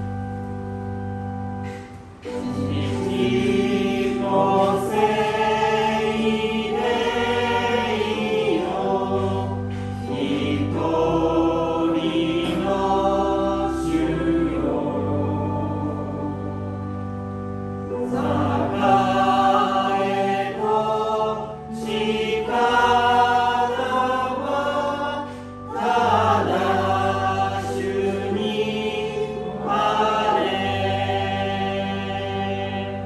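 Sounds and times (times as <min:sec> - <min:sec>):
congregation singing a hymn: 0:00.0 - 0:33.0
instrumental accompaniment: 0:00.0 - 0:33.0.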